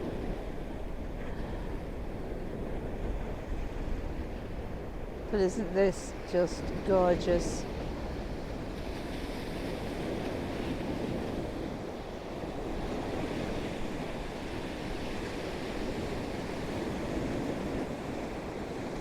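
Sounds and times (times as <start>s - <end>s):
sea waves washing on shore: 0.0s - 19.0s
wind buffeting microphone: 0.0s - 19.0s.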